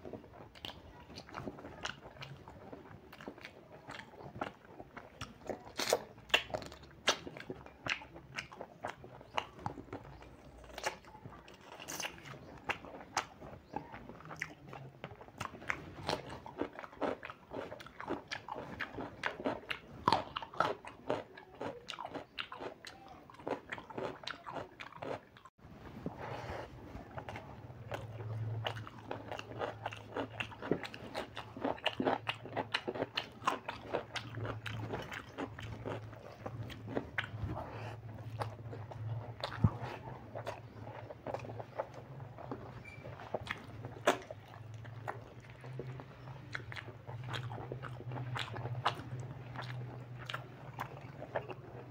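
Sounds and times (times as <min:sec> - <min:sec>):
wet chewing and crunching: 0:00.0 - 0:25.6, 0:26.2 - 0:51.9.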